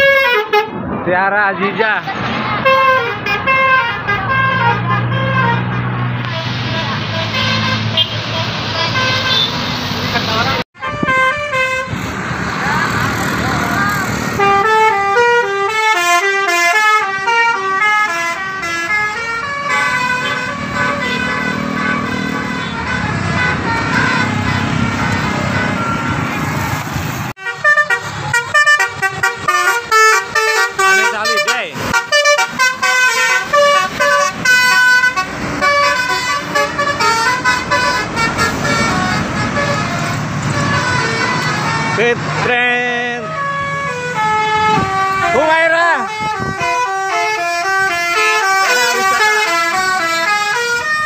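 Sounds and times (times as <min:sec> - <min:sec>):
musical air horn: 0:00.0 - 0:00.8, 0:02.6 - 0:09.6, 0:10.8 - 0:12.0, 0:14.4 - 0:26.3, 0:27.4 - 0:42.1, 0:43.0 - 0:51.0
bus engine: 0:00.0 - 0:51.0
road noise: 0:00.0 - 0:51.0.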